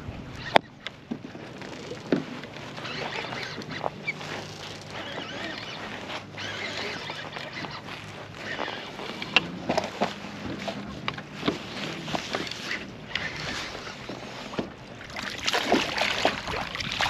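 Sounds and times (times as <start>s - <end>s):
waves lapping against kayak hull: 0.0s - 17.0s.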